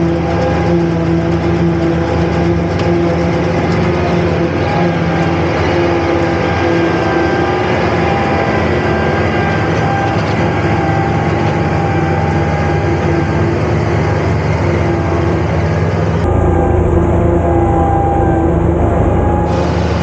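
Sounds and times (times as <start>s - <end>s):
farm machine running: 0.0s - 20.0s
tractor engine running: 0.0s - 20.0s.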